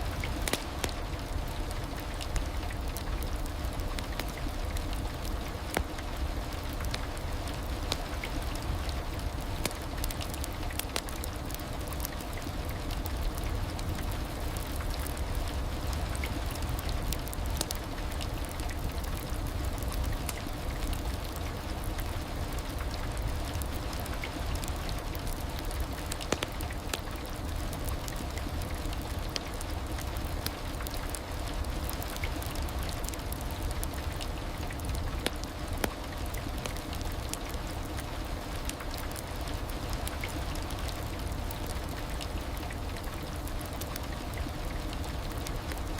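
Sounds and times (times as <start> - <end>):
heavy rain pattering: 0.0 - 45.9.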